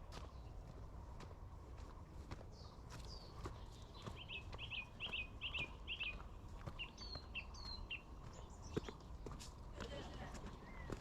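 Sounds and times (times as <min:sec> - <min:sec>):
birds chirping: 0:00.0 - 0:11.0
faint footsteps on trail: 0:00.0 - 0:11.0.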